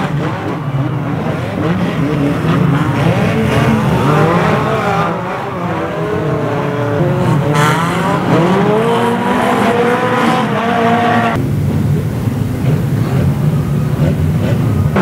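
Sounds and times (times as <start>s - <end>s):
racing car engines revving: 0.0s - 15.0s.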